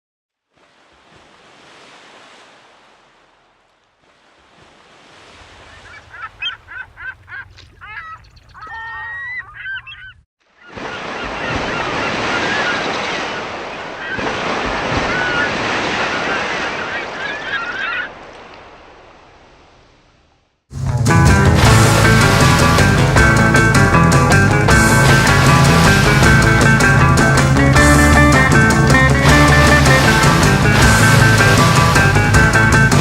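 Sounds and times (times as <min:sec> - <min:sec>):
ocean waves breaking: 0:00.5 - 0:09.6, 0:10.4 - 0:20.0, 0:20.7 - 0:33.0.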